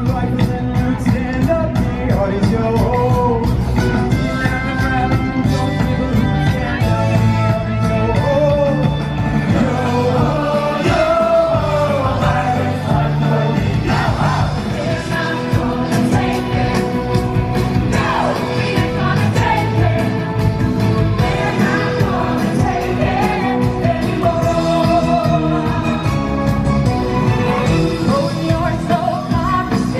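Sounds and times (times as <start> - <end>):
song with singing over bass and chords: 0.0 - 29.9.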